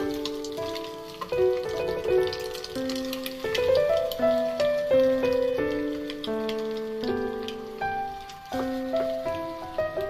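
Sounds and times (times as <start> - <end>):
faint scattered crackle: 0.0 - 10.0
instrumental background music: 0.0 - 10.0.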